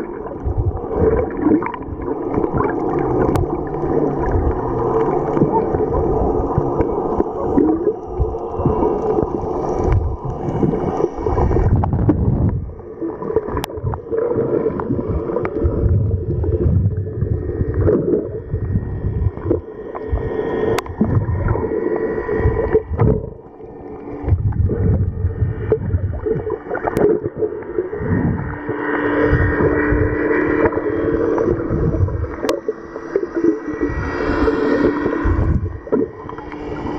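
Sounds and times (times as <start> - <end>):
steady hum: 0.0 - 36.9
underwater water rushing and bubbling: 0.0 - 36.9.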